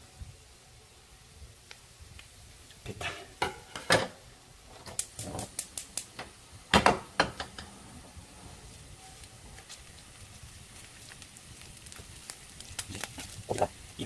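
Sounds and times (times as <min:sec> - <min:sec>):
faint charcoal crackle: 0:00.0 - 0:14.0.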